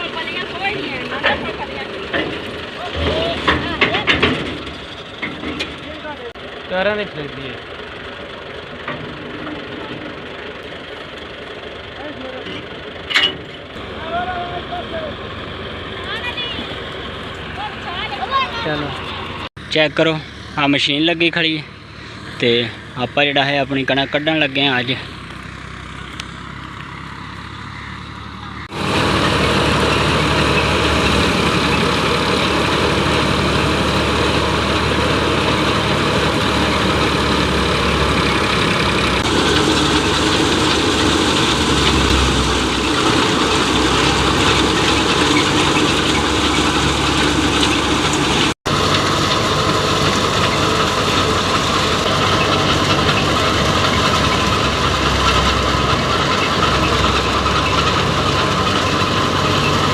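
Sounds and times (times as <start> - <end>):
wheat thresher running: 0.0 - 27.9, 28.6 - 59.9.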